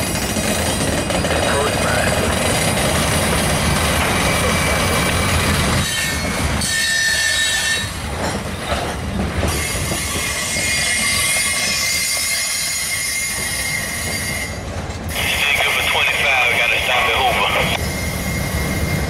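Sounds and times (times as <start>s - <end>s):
steel wheels squealing on rail: 0.0s - 16.6s, 17.6s - 19.0s
low rumble of train wheels: 0.0s - 19.0s.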